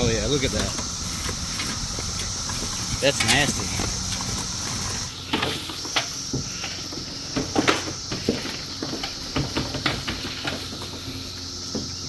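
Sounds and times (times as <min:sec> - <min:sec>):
cicada chorus droning: 0:00.0 - 0:12.0
lawn sweeper clicking and knocking: 0:00.3 - 0:12.0.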